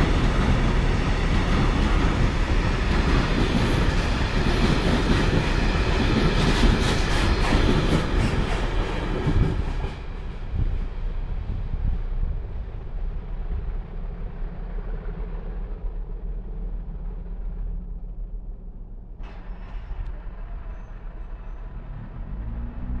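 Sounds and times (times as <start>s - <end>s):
diesel locomotive engines rumbling: 0.0s - 23.0s.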